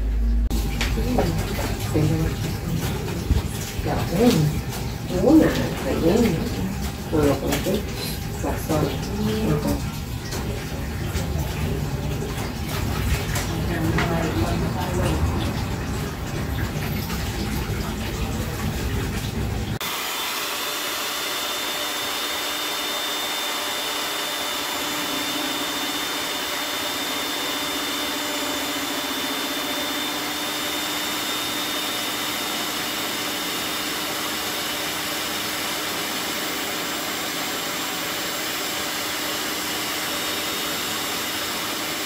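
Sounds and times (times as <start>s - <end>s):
electric hand mixer whirring: 0.0s - 16.8s, 19.8s - 42.0s.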